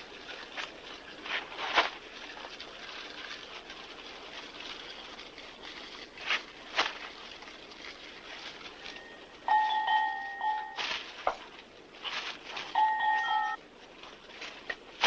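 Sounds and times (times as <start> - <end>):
crackling twig fire: 0.0 - 9.7, 10.8 - 13.0, 13.6 - 15.0.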